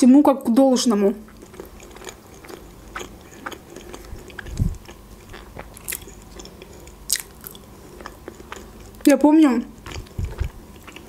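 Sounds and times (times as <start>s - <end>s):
chewing crunchy food: 0.8s - 11.0s.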